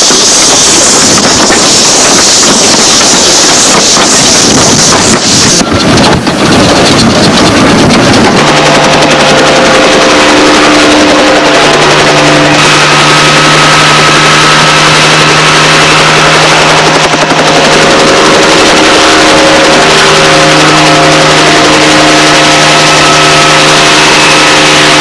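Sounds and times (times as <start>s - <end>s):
helicopter engine droning: 0.0s - 25.0s
loud rushing noise: 0.0s - 25.0s.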